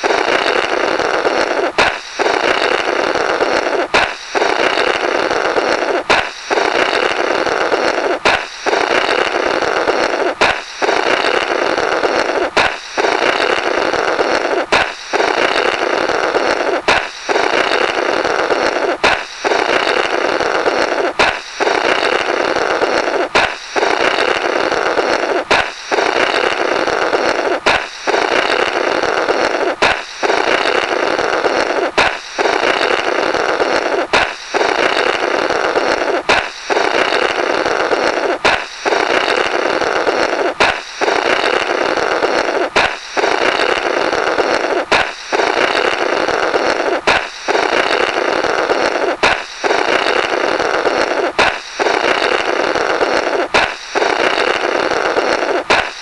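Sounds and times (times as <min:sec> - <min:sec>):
balloon popping: 0:00.0 - 0:56.0
buzzy blow through balloon: 0:00.0 - 0:56.0.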